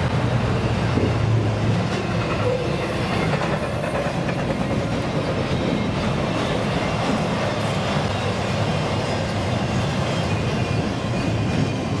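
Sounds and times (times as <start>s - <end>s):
freight train rolling past: 0.0s - 12.0s
steel wheels on rails: 0.0s - 12.0s.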